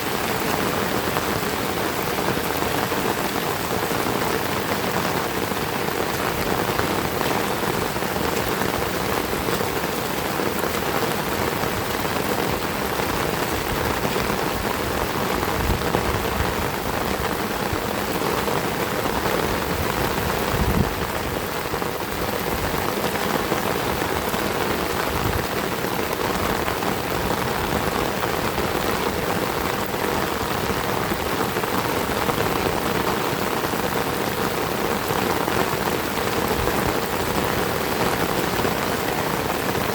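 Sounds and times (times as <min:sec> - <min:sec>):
heavy rain splashing: 0:00.0 - 0:39.9.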